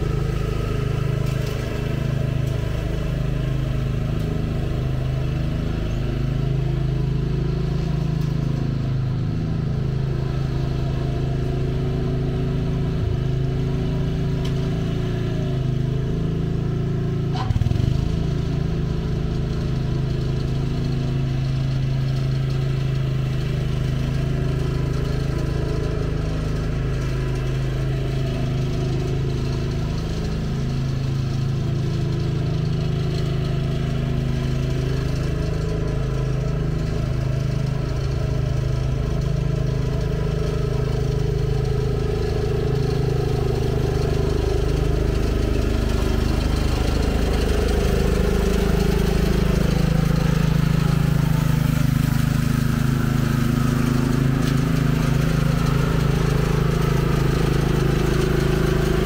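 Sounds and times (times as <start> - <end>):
riding lawn mower engine running: 0.0 - 59.0.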